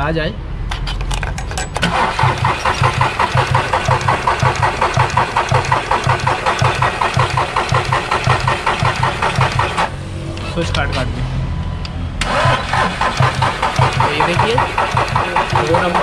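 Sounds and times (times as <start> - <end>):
starter motor cranking engine: 1.8 - 11.0, 12.2 - 16.0.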